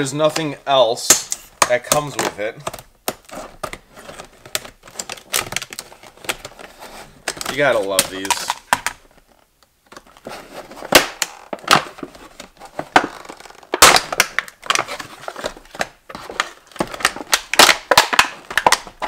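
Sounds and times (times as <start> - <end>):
plastic packaging crackling: 1.1 - 19.0.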